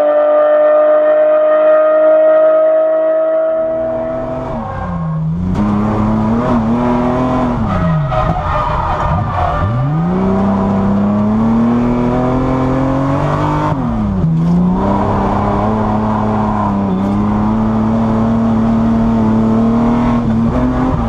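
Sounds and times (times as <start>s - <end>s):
car engine pulling hard: 3.4s - 21.0s.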